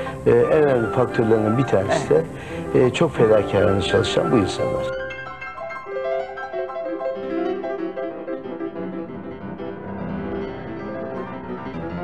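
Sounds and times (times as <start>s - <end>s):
piano background music: 0.0s - 12.0s.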